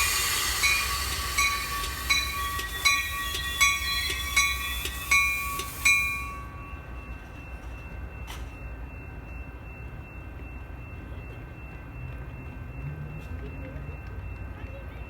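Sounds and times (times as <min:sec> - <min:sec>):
railroad bell ringing: 0:00.0 - 0:15.0
train rumbling: 0:00.0 - 0:15.0.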